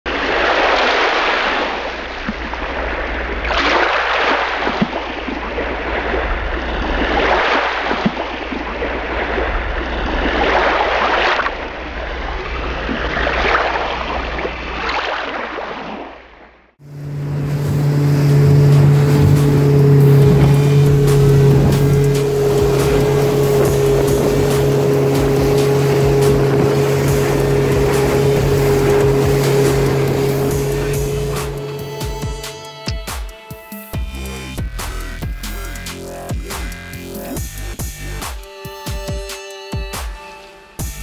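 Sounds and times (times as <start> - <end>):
outboard engine running: 0.1 - 15.2, 16.8 - 38.2
waves breaking: 0.1 - 33.9.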